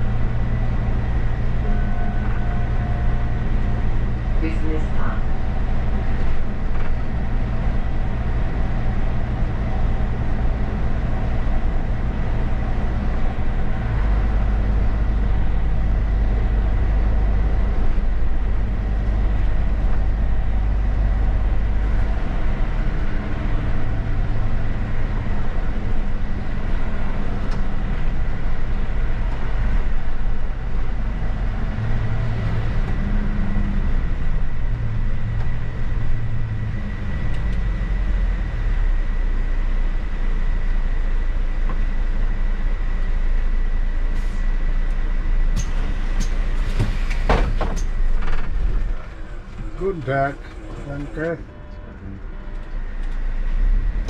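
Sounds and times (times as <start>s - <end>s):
bus engine drone: 0.0s - 54.0s
tyre and road noise: 0.0s - 54.0s.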